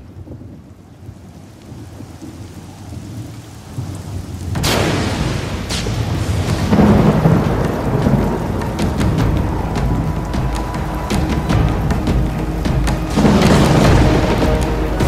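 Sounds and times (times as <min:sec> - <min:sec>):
steady rain: 0:00.0 - 0:15.0
thunder cracking and rumbling: 0:00.0 - 0:15.0.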